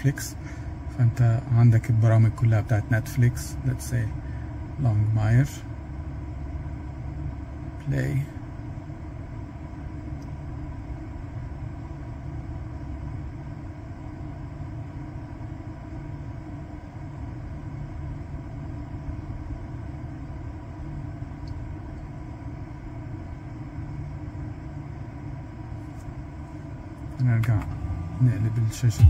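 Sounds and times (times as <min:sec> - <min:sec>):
faint steady hum: 0:00.0 - 0:29.0
steady low rumble: 0:00.0 - 0:29.0.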